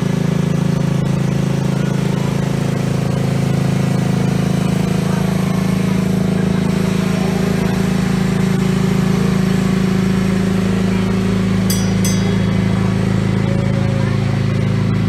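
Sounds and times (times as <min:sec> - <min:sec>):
vehicle engines droning: 0:00.0 - 0:15.0.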